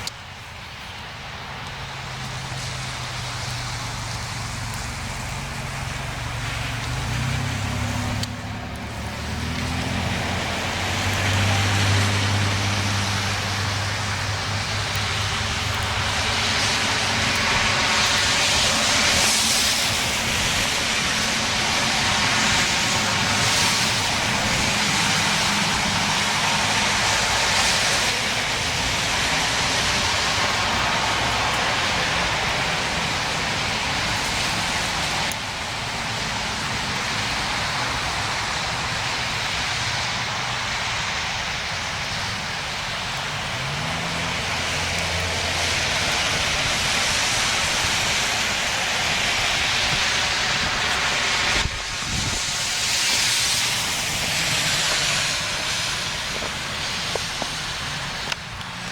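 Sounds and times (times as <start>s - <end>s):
steady noisy rush: 0.0s - 58.9s
vehicle engine running: 1.4s - 58.9s.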